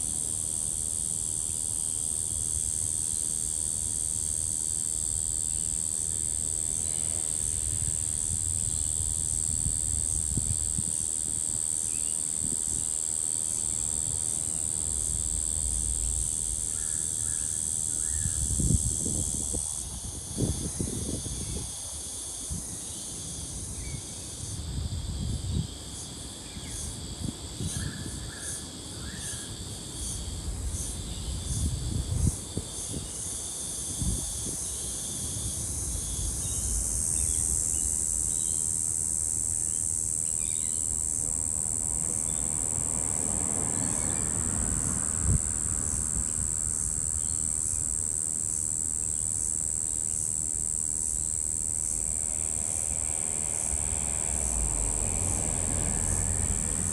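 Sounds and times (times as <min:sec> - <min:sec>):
cicada buzzing: 0:00.0 - 0:56.9.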